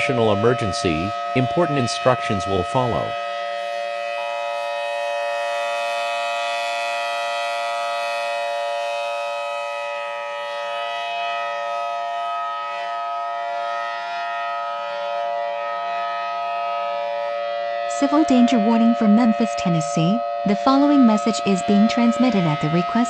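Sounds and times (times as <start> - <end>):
warning siren steady chord: 0.0 - 23.0.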